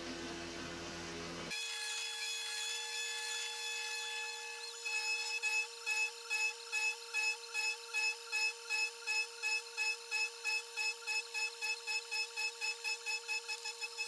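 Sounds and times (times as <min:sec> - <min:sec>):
milling machine high-pitched whine: 0:01.5 - 0:14.0.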